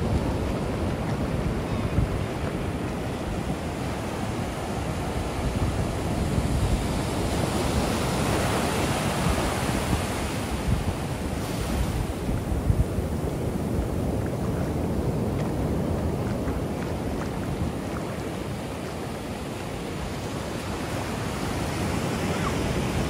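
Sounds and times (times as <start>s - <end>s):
waves breaking on beach: 0.0s - 23.0s
wind buffeting microphone: 0.0s - 23.0s.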